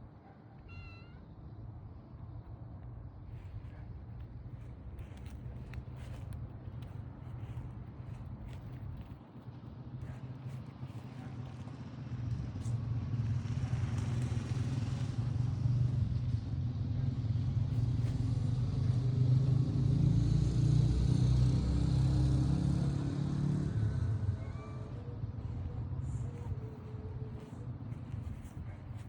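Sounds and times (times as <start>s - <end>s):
vehicle engine rumble passing: 2.0s - 29.0s.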